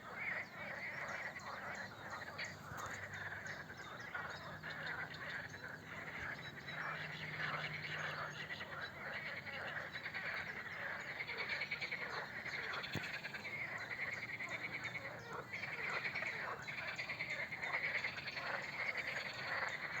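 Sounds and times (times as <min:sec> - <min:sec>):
frogs croaking: 0:00.0 - 0:20.0.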